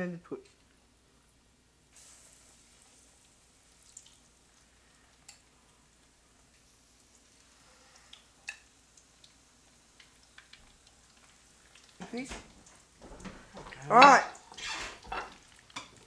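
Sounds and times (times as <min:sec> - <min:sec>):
chicken frying in a pan: 0:01.9 - 0:16.0.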